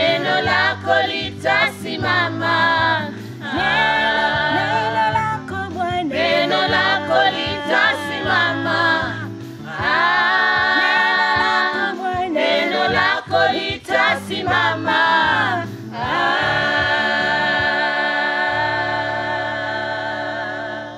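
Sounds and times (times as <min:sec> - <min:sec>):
choir singing a gospel song: 0:00.0 - 0:20.9
low musical accompaniment: 0:00.0 - 0:20.9.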